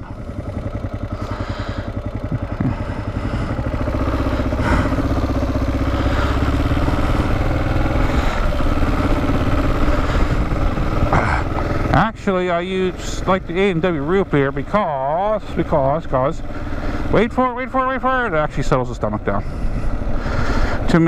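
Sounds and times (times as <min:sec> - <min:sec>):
motorcycle engine idling and accelerating: 0:00.0 - 0:21.0.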